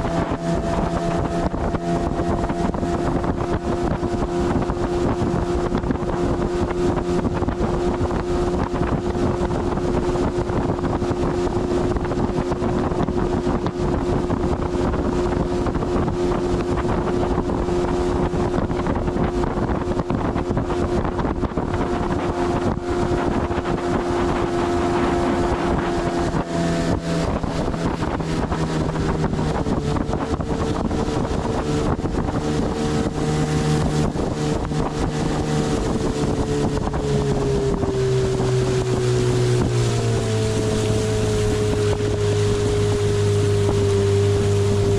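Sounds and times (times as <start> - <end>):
motorboat engine running: 0.0 - 44.9
wind buffeting microphone: 0.0 - 44.9.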